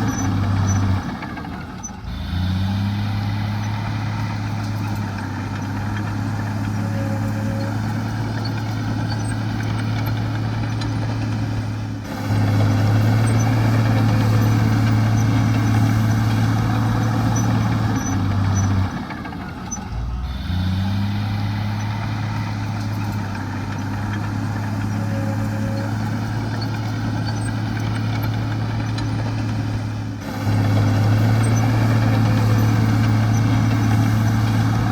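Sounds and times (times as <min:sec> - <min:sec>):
heavy diesel engine under load: 0:00.0 - 0:34.9.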